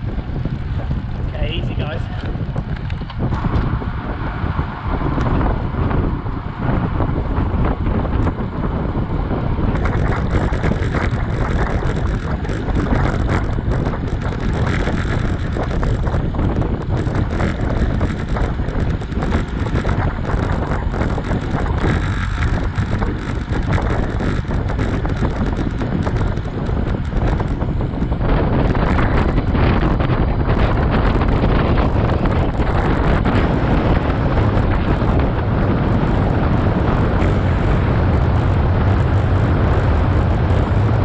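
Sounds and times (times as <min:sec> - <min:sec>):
bicycle clicks and rattles: 0:00.0 - 0:03.8, 0:05.0 - 0:41.0
wind rushing over microphone: 0:00.0 - 0:41.0.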